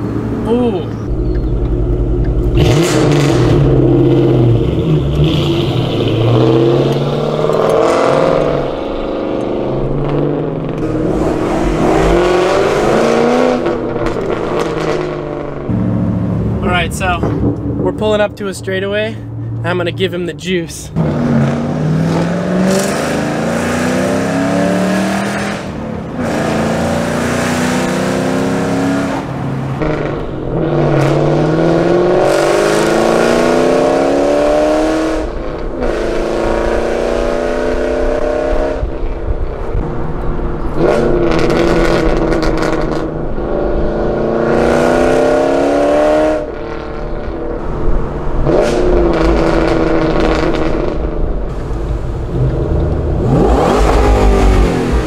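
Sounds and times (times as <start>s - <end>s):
car engine accelerating hard: 0.0s - 18.0s, 20.9s - 55.0s.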